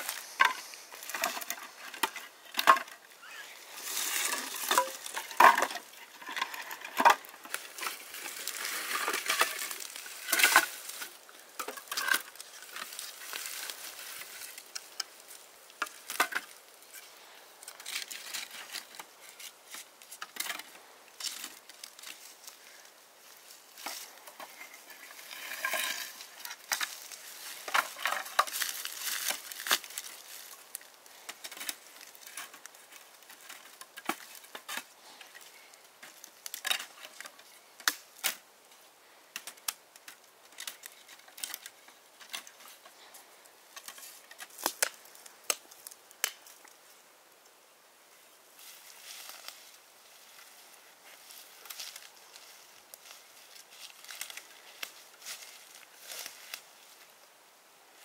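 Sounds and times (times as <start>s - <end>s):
rustling and crinkling: 0.0s - 58.0s.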